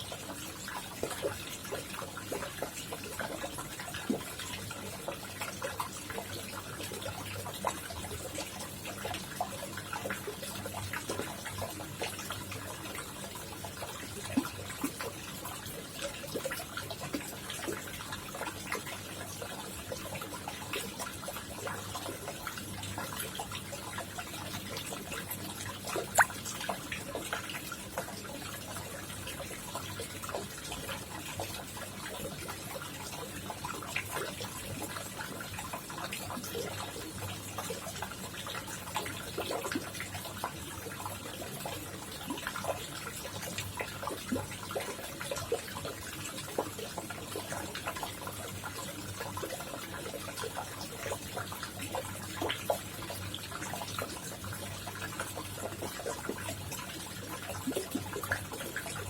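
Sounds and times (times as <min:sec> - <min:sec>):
pond water trickling and splashing: 0:00.0 - 0:59.0
small water plops and drips: 0:00.0 - 0:59.0.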